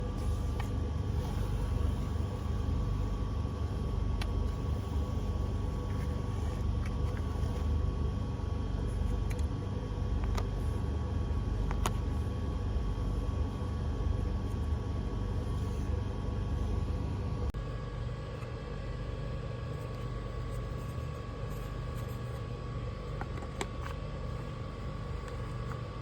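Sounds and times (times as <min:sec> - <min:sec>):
faint steady whine: 0:00.0 - 0:26.0.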